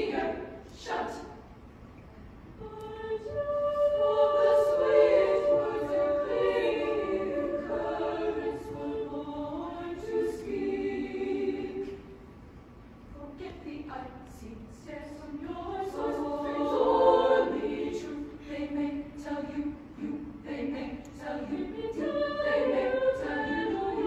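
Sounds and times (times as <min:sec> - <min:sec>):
women's choir singing in harmony: 0:00.0 - 0:12.5, 0:13.1 - 0:24.0.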